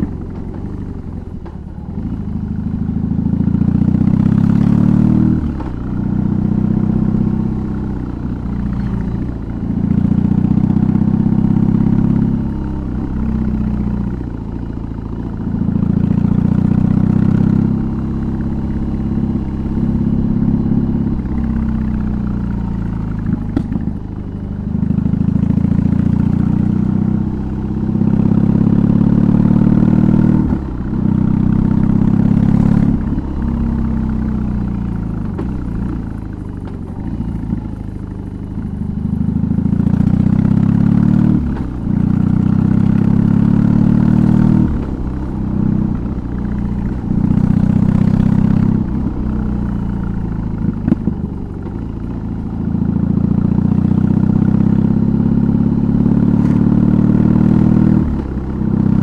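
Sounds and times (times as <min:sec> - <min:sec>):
motorcycle engine revving while riding: 0:00.0 - 0:59.0.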